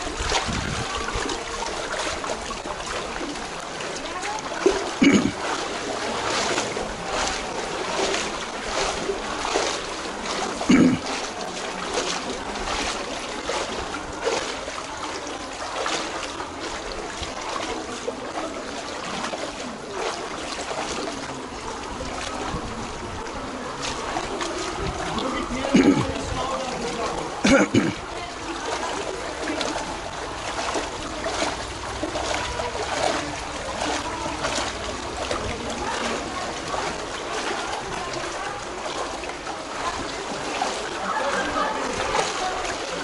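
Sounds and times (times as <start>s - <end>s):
footsteps splashing through water: 0.0s - 43.0s.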